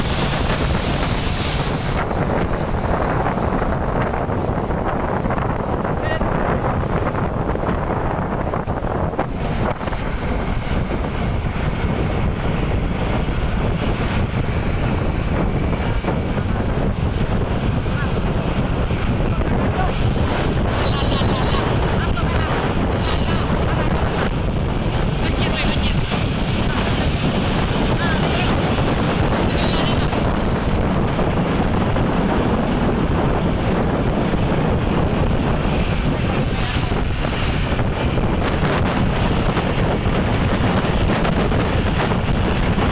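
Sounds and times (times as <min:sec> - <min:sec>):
low road and traffic rumble: 0:00.0 - 0:42.9
wind buffeting microphone: 0:00.0 - 0:42.9.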